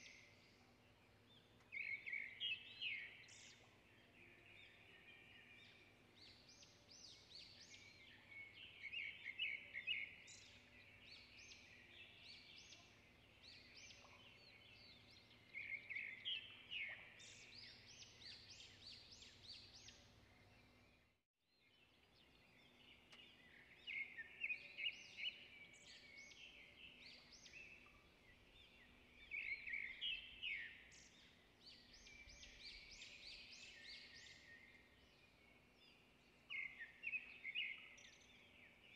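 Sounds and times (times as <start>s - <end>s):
faint songbirds chirping: 0.0s - 38.9s.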